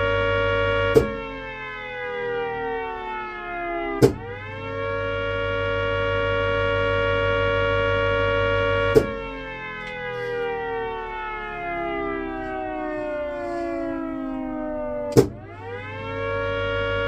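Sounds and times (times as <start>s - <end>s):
multi-tone siren: 0.0s - 17.0s.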